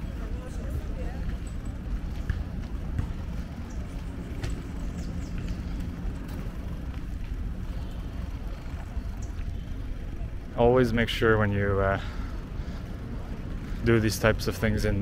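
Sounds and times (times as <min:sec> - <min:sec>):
bicycle rolling noise: 0:00.0 - 0:15.0
wind rumble: 0:00.0 - 0:15.0.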